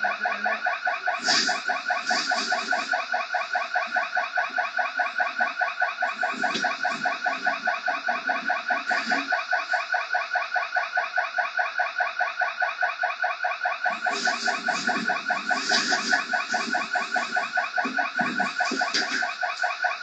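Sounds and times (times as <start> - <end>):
warbling alarm siren: 0.0 - 20.0.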